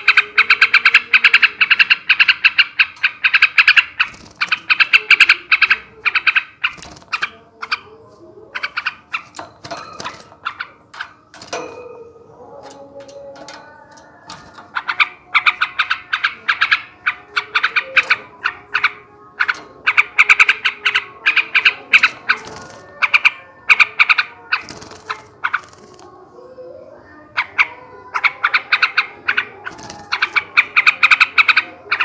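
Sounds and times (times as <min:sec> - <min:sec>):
bird chattering song: 0:00.0 - 0:32.0.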